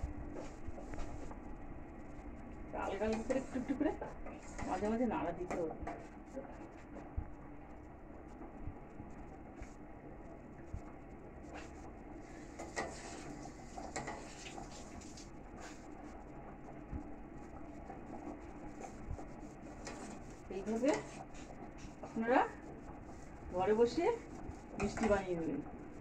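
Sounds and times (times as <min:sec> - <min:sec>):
syrup bubbling in a pot: 0:00.0 - 0:26.0.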